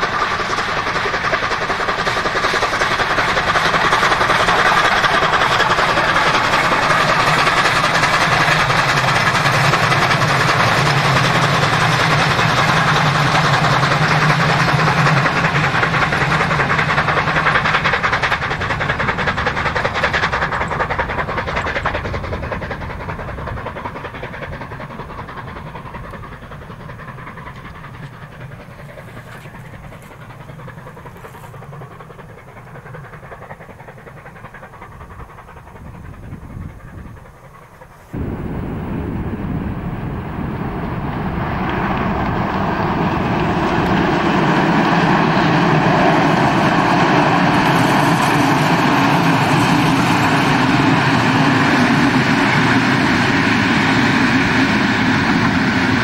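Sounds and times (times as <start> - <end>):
steam locomotive working: 0.0 - 56.0.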